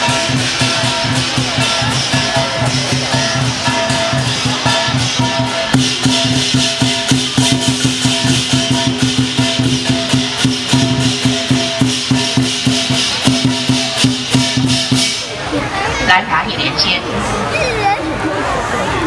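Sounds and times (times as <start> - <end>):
cymbals clashing: 0.0 - 15.7
large drum beating: 0.0 - 17.1.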